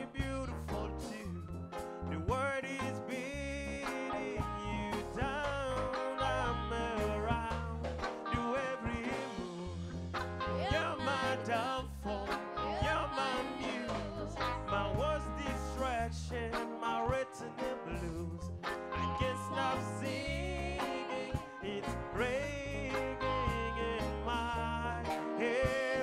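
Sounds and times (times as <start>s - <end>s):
person singing: 0.0s - 1.4s, 2.1s - 26.0s
bass line: 0.0s - 26.0s.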